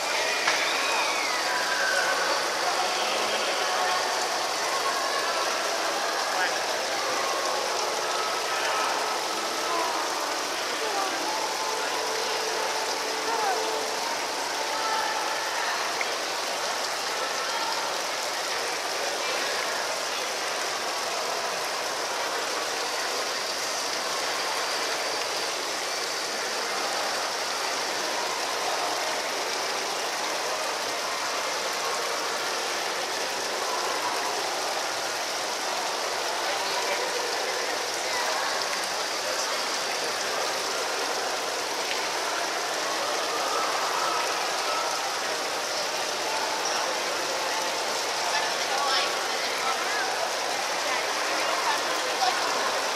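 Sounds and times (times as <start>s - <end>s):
fountain water splashing: 0.0s - 52.9s.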